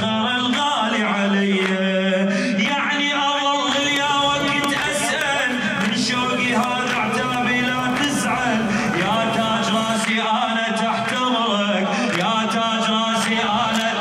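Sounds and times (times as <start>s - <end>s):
men singing unaccompanied: 0.0s - 14.0s.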